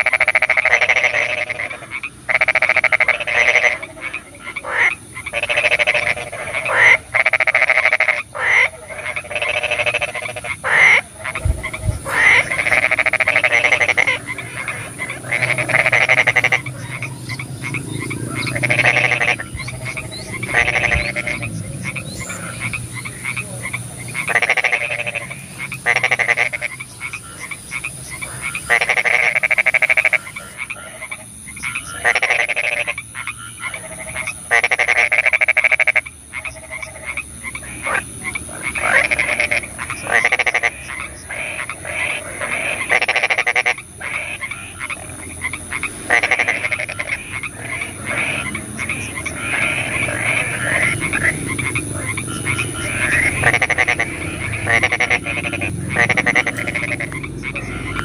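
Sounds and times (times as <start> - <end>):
frogs croaking: 0.0 - 58.0.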